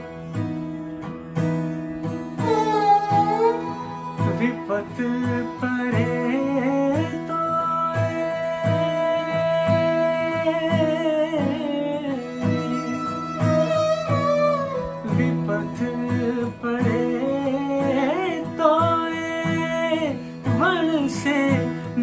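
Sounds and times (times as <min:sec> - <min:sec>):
acoustic guitar strumming: 0:00.0 - 0:22.0
bowed string melody: 0:00.0 - 0:22.0
man singing: 0:02.4 - 0:22.0.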